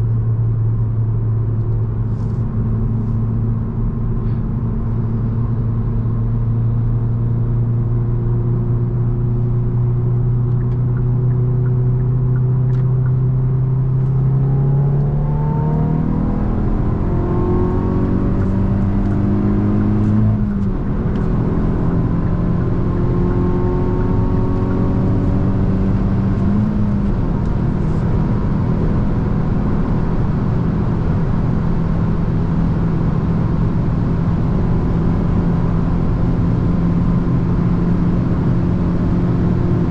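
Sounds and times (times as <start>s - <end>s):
car engine cruising and accelerating: 0.0s - 39.9s
road noise: 0.0s - 39.9s.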